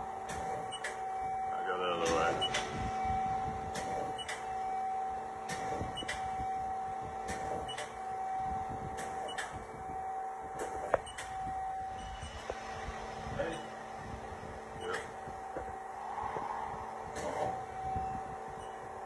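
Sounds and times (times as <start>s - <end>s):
lathe whining: 0.0s - 19.0s.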